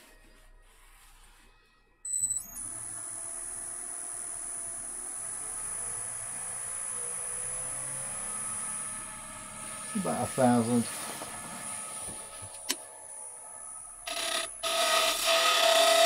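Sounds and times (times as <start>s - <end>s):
wood lathe whining: 2.5s - 16.0s.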